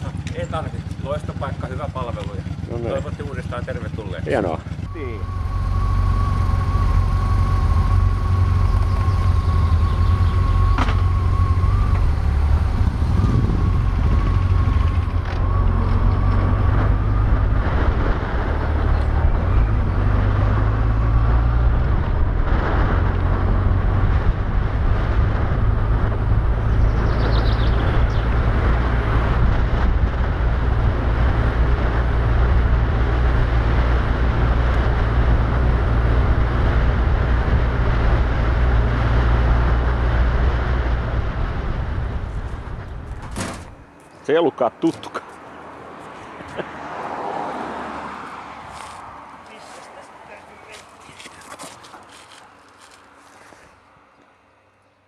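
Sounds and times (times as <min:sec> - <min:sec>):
noisy rush: 0:00.0 - 0:51.0
vehicle engine and road rumble: 0:00.0 - 0:55.0.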